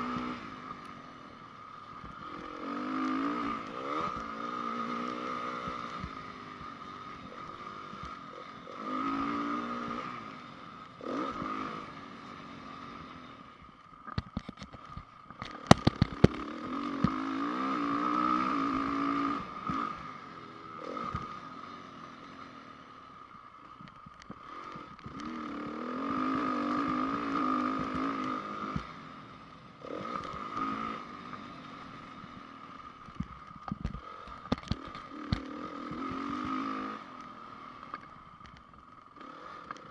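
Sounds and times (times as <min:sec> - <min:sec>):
motocross engine revving: 0:00.0 - 0:13.5, 0:15.4 - 0:22.6, 0:24.4 - 0:33.0, 0:34.0 - 0:38.0, 0:39.2 - 0:39.9.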